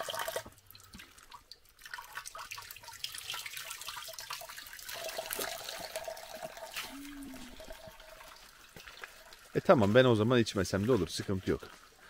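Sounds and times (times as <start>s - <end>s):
water dripping into stone basin: 0.0s - 12.0s
water running from a metal pipe: 0.0s - 12.0s.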